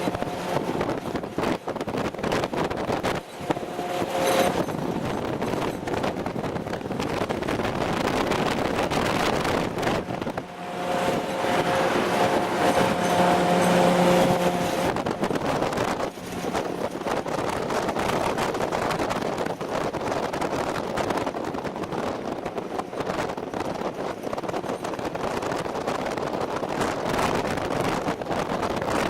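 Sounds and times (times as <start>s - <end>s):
steady whining tone: 0.0s - 29.0s
vehicle engine and tyre roar: 0.0s - 29.0s.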